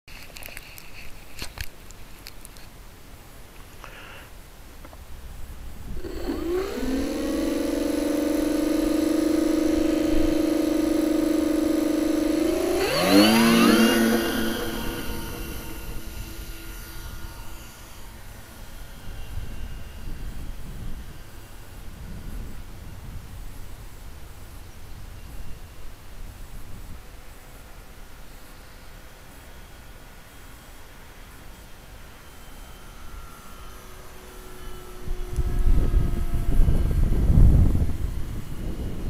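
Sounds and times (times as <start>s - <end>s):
electric motors whining: 3.6s - 39.0s.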